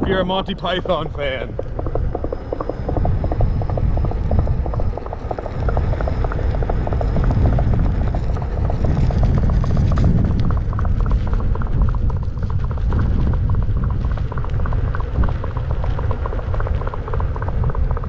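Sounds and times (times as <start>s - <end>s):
clip-clop hoofbeats: 0.0s - 18.0s
low rumble: 0.0s - 18.0s.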